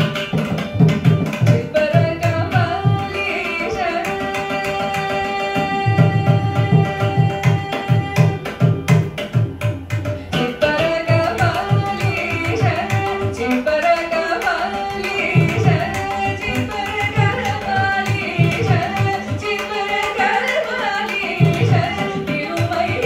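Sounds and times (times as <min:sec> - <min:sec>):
mridangam drum strokes: 0:00.0 - 0:23.0
violin: 0:00.0 - 0:23.0
woman singing: 0:01.3 - 0:09.1, 0:10.2 - 0:23.0.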